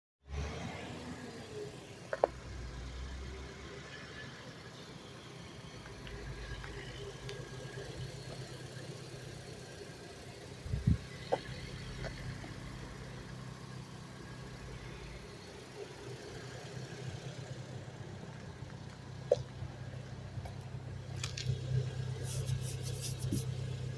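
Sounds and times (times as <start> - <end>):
car engine running at low revs: 0.4 - 23.9.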